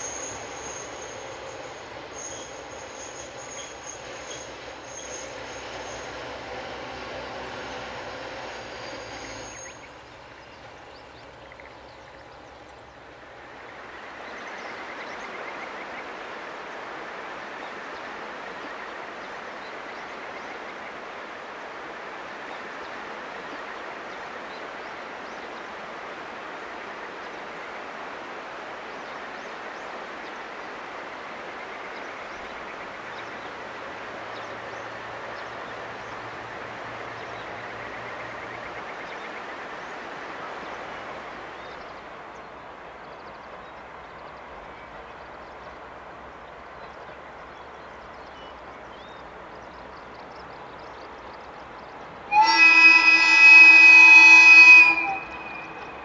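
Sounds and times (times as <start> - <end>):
passing train: 0.0 - 56.0.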